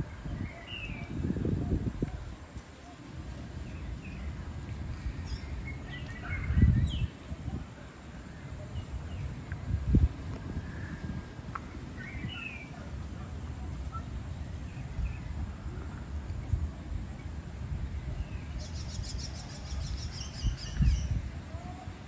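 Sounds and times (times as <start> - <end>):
birds chirping: 0.0 - 21.9
wind buffeting microphone: 0.0 - 22.0.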